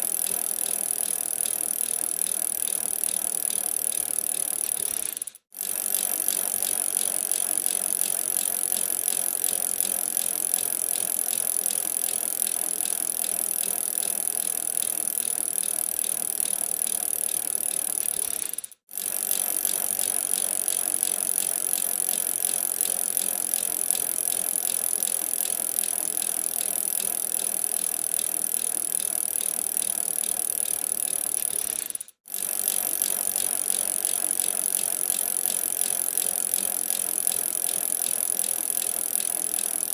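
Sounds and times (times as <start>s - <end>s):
bicycle ticking and rattling: 0.0s - 39.9s.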